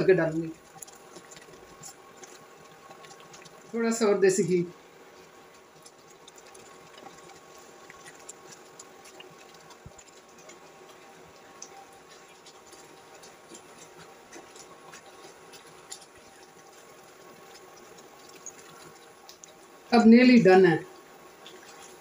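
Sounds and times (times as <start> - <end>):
faint steady hum: 0.0 - 22.0
thick mixture bubbles popping: 0.0 - 22.0.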